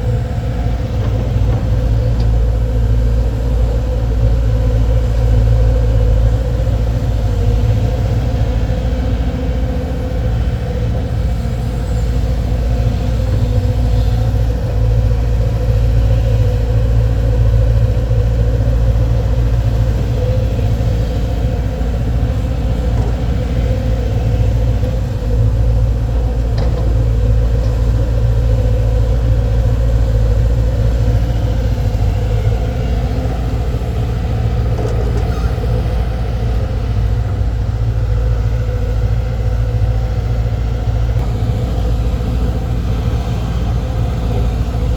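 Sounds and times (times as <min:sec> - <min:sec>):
excavator diesel engines running: 0:00.0 - 0:44.9.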